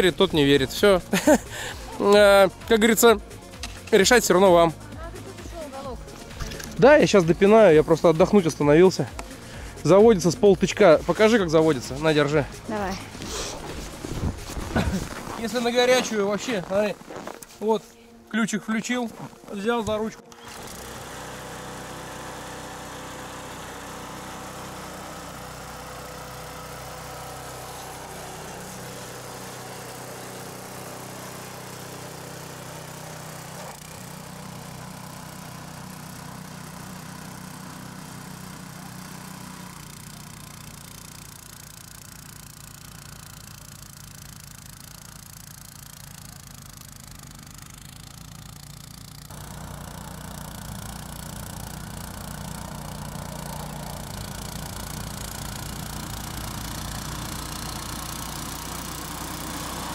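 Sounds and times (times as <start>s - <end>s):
snow blower engine running: 0.0s - 59.9s.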